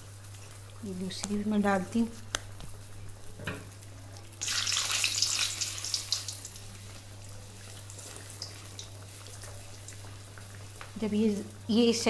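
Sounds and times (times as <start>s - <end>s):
food sizzling in hot oil: 0.0s - 12.0s
oil bubbling: 0.0s - 12.0s.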